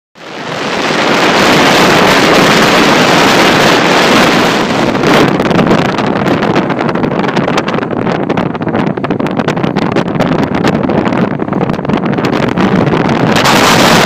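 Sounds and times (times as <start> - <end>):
strong wind on microphone: 0.2 - 14.0.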